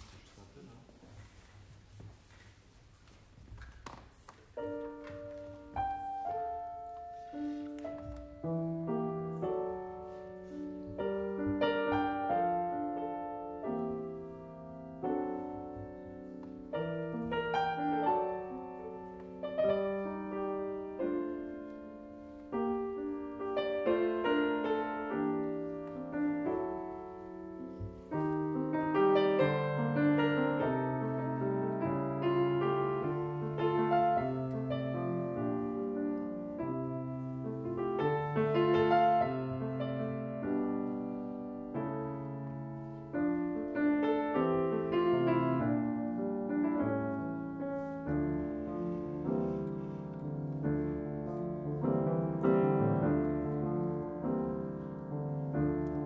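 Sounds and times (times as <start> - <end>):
solo grand piano: 0.0 - 56.0.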